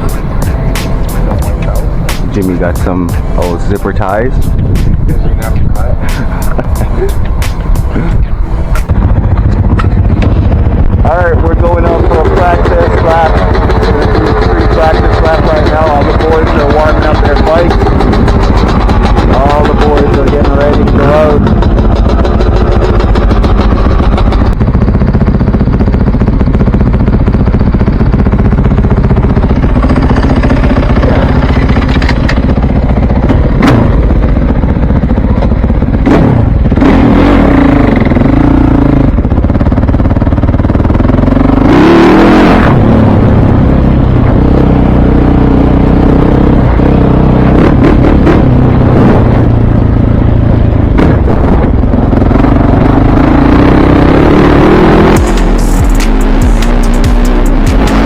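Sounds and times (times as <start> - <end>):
motocross bike engines revving: 0.0 - 24.7, 28.2 - 39.3, 40.9 - 58.0.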